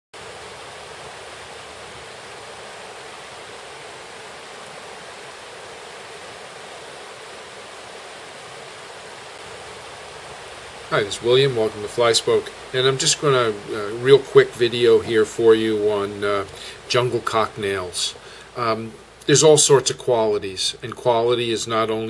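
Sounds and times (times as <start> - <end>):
river rushing over shallows: 0.2 - 22.0.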